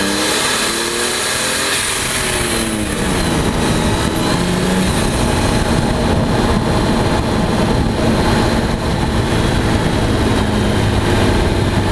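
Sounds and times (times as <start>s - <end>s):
car engine and exhaust droning: 0.0s - 11.9s.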